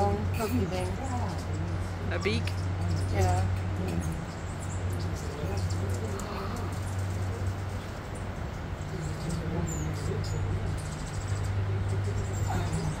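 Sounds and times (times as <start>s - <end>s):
hummingbird wings humming: 0.0s - 13.0s.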